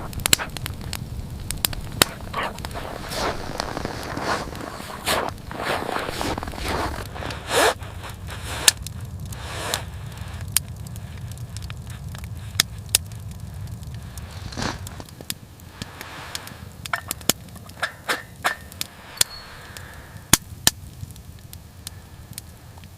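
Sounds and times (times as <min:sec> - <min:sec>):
low rumble: 0:00.0 - 0:22.9
wood fire crackling: 0:00.0 - 0:22.9.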